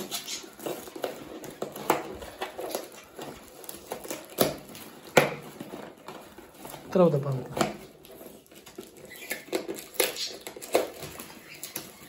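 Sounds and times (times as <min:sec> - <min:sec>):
cardboard box tape ripping: 0:00.0 - 0:06.8, 0:07.6 - 0:12.0.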